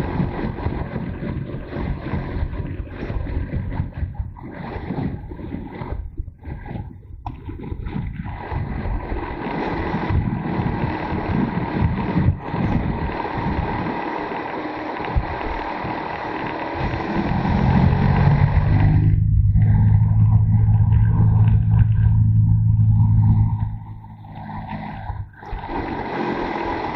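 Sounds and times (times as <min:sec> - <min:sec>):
motorcycle engine: 0:00.0 - 0:26.9
wind rushing over microphone: 0:00.0 - 0:26.9.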